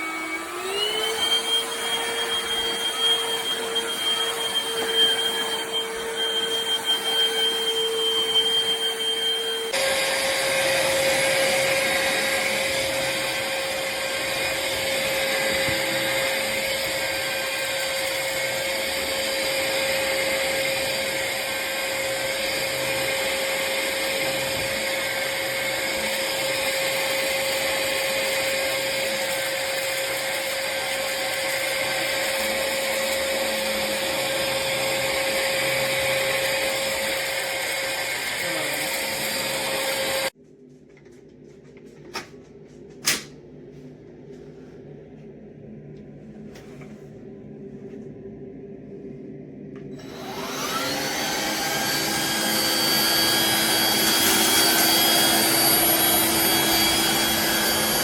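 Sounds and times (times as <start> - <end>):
vacuum cleaner running: 0.0 - 40.4, 49.8 - 58.0.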